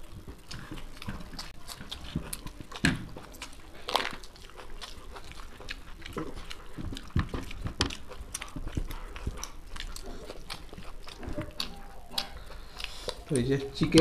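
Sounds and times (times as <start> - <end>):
close chewing with lip smacks: 0.0 - 14.0
fingers mixing rice on plates: 0.0 - 14.0.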